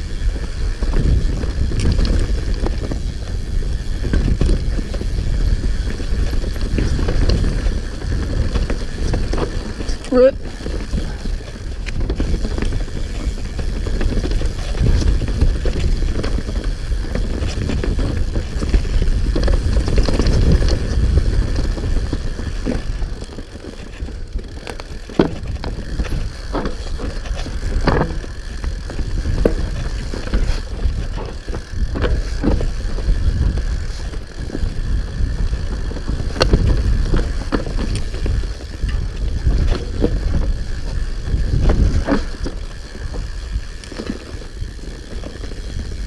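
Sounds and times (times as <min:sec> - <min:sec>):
bike knocking and rattling: 0:00.0 - 0:46.0
wind and tyres on dirt: 0:00.0 - 0:46.0.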